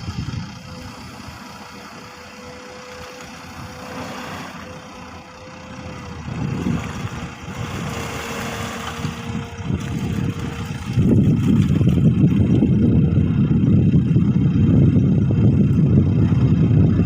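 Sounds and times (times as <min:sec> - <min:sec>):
excavator diesel engine running: 0:00.0 - 0:17.0
thin steady whine: 0:00.0 - 0:17.0.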